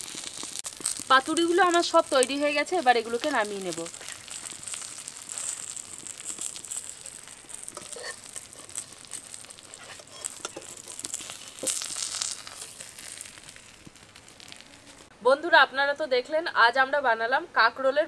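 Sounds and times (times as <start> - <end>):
parcels sizzling in hot oil: 0.0 - 15.1.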